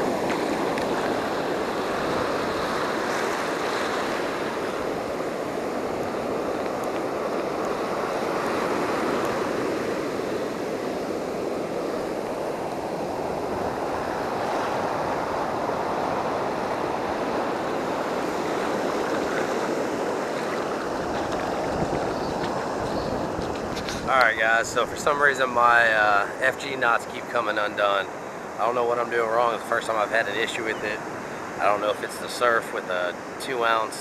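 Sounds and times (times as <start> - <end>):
ocean surf breaking: 0.0 - 34.0.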